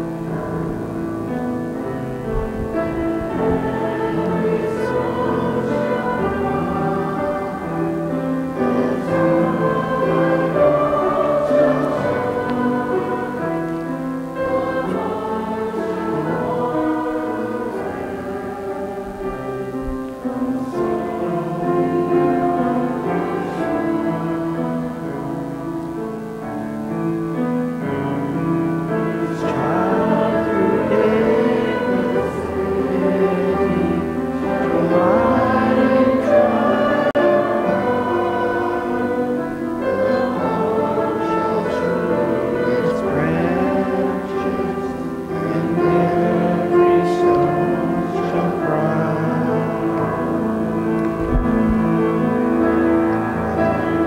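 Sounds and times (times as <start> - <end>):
congregation singing a hymn: 0.0 - 54.0
grand piano: 0.0 - 54.0.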